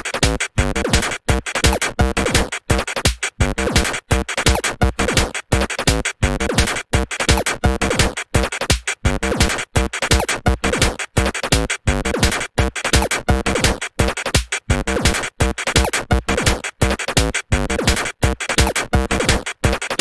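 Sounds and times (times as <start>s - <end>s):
electronic music with drum machine: 0.0s - 20.0s.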